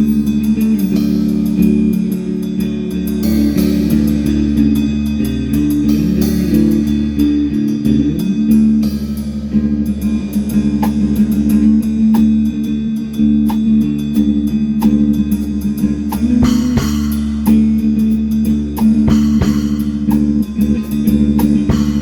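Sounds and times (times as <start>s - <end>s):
drum kit cymbal strokes: 0.0s - 22.0s
guitar and bass guitar: 0.0s - 22.0s.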